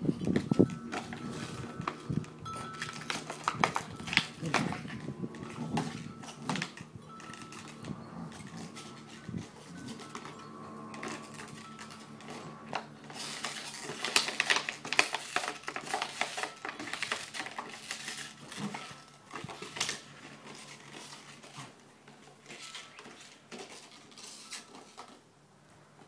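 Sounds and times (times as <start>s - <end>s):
dog chewing plastic bottle: 0.1s - 10.3s, 10.9s - 25.2s.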